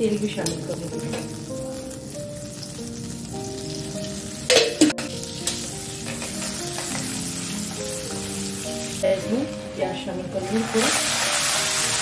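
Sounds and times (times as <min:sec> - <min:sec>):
butter sizzling in a pan: 0:00.0 - 0:12.0
soft background music: 0:00.0 - 0:12.0.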